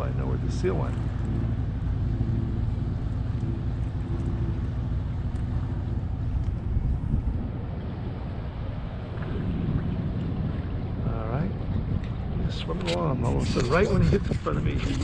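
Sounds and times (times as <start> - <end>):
motorboat engine droning: 0.0 - 15.0
wind on microphone: 0.0 - 15.0.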